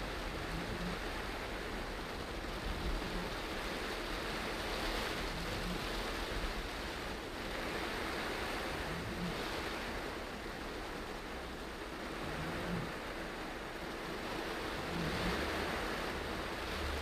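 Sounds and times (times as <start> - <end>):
heavy rain: 0.0 - 17.0
tyres on flooded road: 0.0 - 17.0
windscreen wipers: 0.0 - 17.0.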